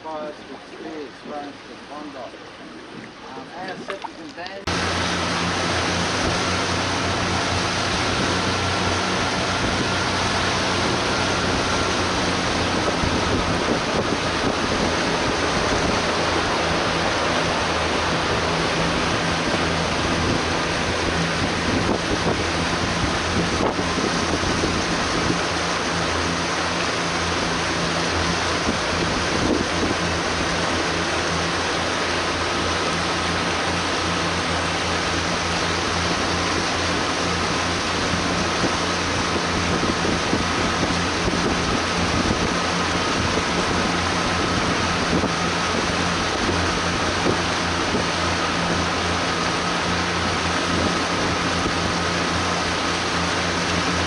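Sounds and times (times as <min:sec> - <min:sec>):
boat engine running: 0:00.0 - 0:54.0
water rushing along hull: 0:00.0 - 0:54.0
wind buffeting microphone: 0:00.8 - 0:54.0.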